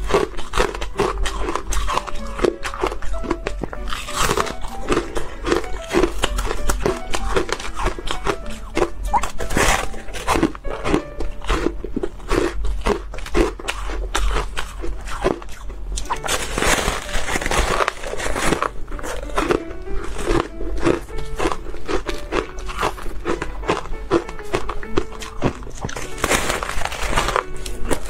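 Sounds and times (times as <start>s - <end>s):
background music: 0.0s - 28.0s
teeth crunching ice: 0.0s - 28.0s.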